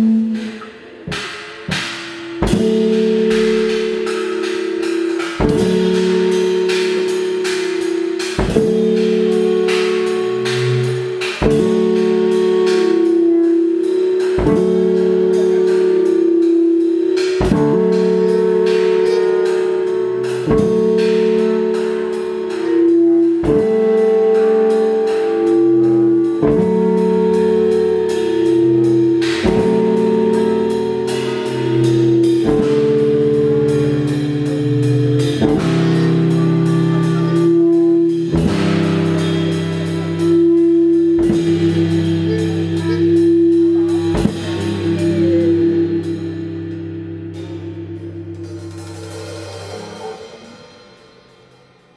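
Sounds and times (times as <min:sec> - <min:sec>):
drum kit and cymbals: 0:00.0 - 0:51.9
jazz band playing: 0:00.0 - 0:51.9.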